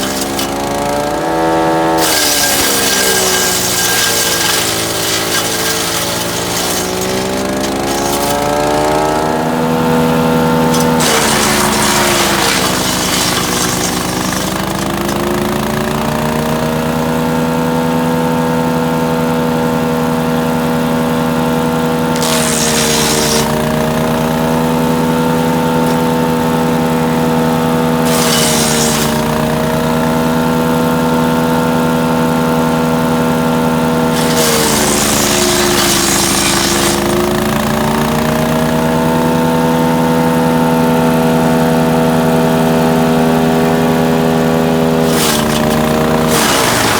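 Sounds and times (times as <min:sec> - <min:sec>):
wood chipper engine running: 0:00.0 - 0:46.9
wood chipper grinding branches: 0:00.0 - 0:46.9.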